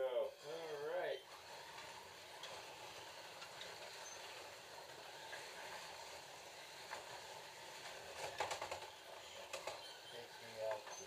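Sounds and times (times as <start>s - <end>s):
slot car motors whirring: 0.0s - 11.0s.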